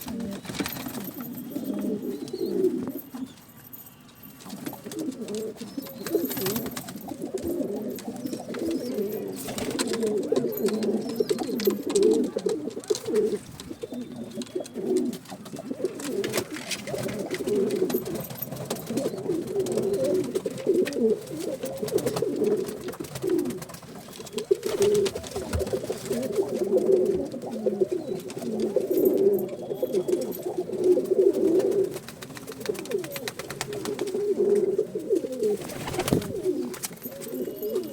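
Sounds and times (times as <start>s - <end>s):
pigeons cooing: 0.0s - 3.4s, 4.5s - 37.9s.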